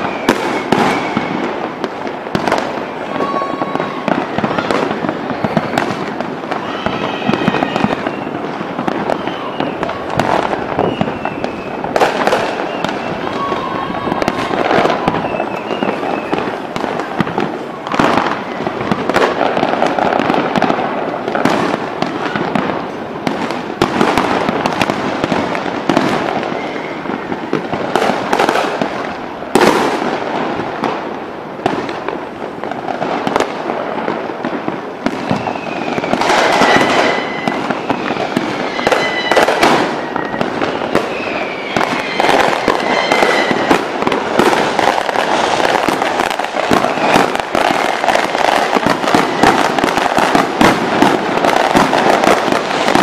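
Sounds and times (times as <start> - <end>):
fireworks bursting and crackling: 0.0 - 53.0
whistling fireworks: 0.0 - 53.0.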